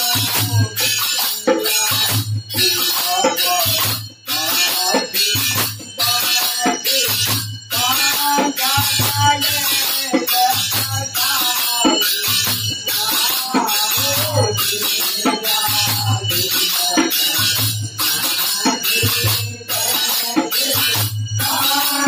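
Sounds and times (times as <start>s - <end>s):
jingling metal hand percussion: 0.0s - 22.0s
men singing devotional song: 0.0s - 22.0s.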